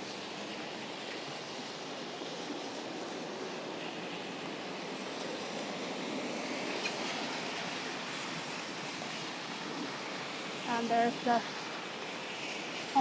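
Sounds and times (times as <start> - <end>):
rain hissing on wet street: 0.0 - 13.0.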